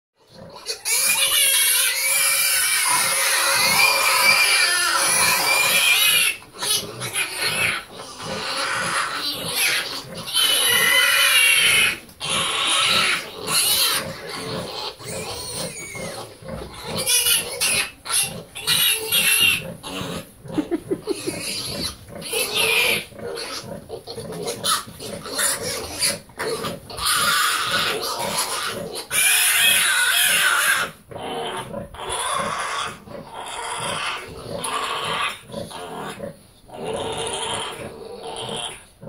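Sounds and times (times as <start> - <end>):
piglets squealing: 0.2 - 38.9
pig grunts: 2.8 - 39.0.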